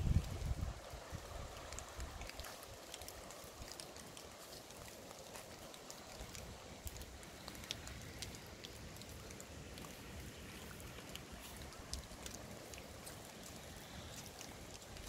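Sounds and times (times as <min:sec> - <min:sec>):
light rain hissing: 0:00.0 - 0:15.0
raindrops ticking: 0:00.0 - 0:15.0.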